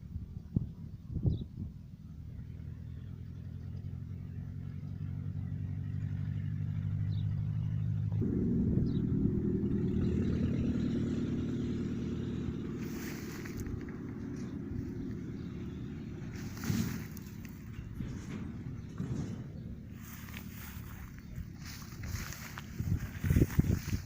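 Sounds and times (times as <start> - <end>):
motor vehicle passing: 2.1 - 24.0.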